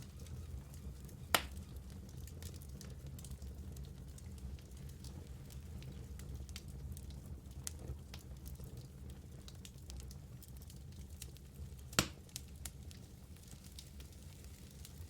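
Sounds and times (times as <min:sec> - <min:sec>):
fire crackles and pops: 0:00.0 - 0:15.0
sharp loud crack of fire: 0:00.0 - 0:15.0
wood fire rumbling: 0:00.0 - 0:15.0.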